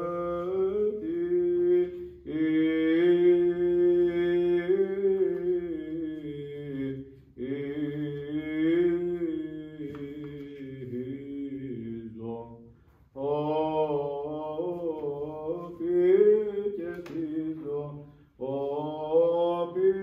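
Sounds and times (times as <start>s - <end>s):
man chanting: 0.0s - 20.0s.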